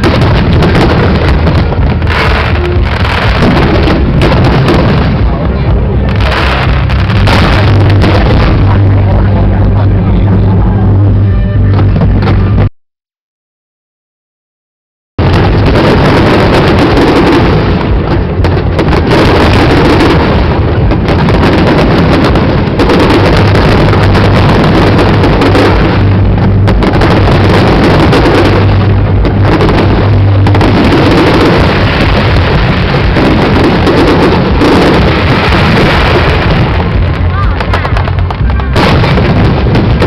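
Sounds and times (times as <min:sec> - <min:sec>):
fireworks barrage: 0:00.0 - 0:12.7, 0:15.2 - 0:40.0.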